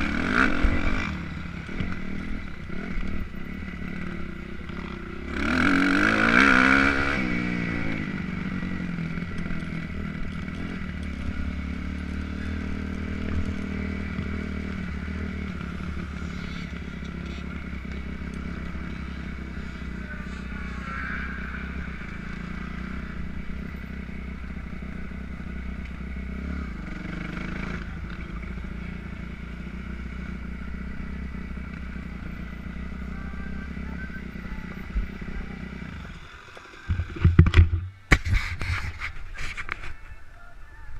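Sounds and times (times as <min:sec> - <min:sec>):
motocross bike engine: 0:00.0 - 0:40.9.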